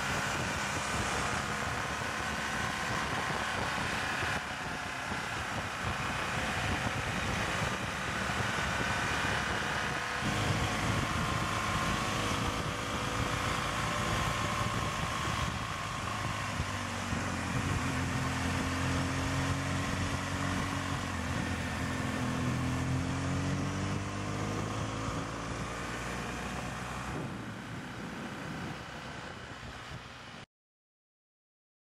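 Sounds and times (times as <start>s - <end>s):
motorcycle engine running: 0.0s - 30.4s
road noise: 0.0s - 30.4s
wind noise: 0.0s - 30.4s.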